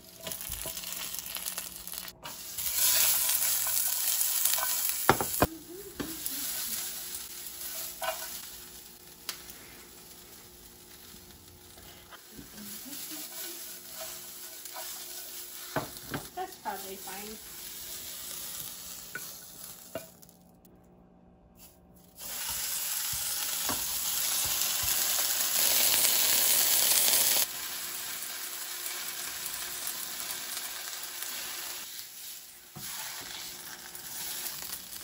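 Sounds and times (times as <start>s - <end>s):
peppers sizzling in hot oil: 0.0s - 20.5s, 21.6s - 35.0s.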